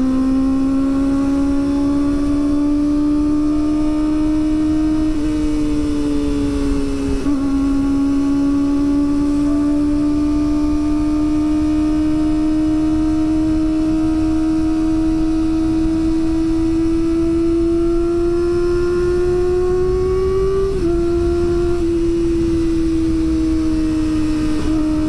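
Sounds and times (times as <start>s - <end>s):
motorcycle engine at high revs: 0.0s - 25.0s
wind rumble: 0.0s - 25.0s.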